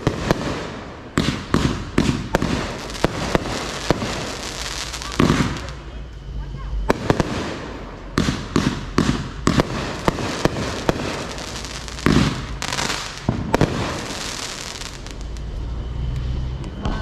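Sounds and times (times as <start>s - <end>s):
fireworks bangs and cracks: 0.0s - 5.9s, 6.8s - 17.0s
fireworks crackling: 0.0s - 17.0s.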